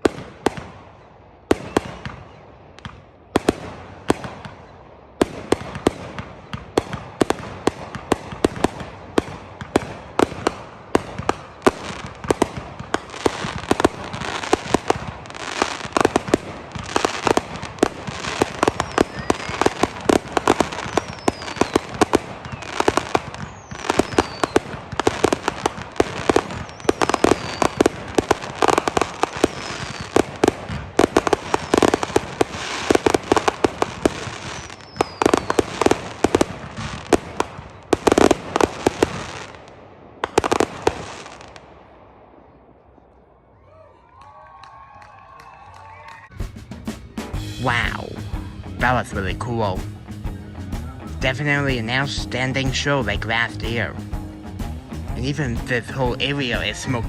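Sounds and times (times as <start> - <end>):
fireworks bangs: 0.0 - 43.0, 46.3 - 57.0
fireworks barrage and crackle: 0.0 - 43.2, 46.3 - 57.0.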